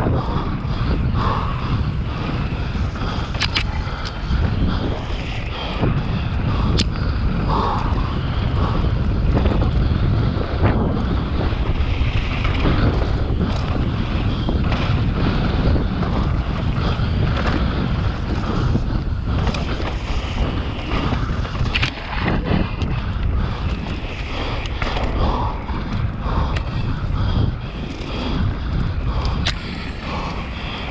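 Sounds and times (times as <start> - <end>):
bike rattling clicks and knocks: 0.0 - 30.9
wind buffeting microphone: 0.0 - 30.9.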